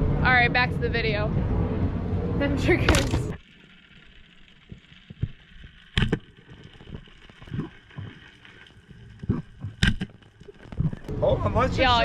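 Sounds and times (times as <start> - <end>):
muffled underwater rumble: 0.0 - 12.0.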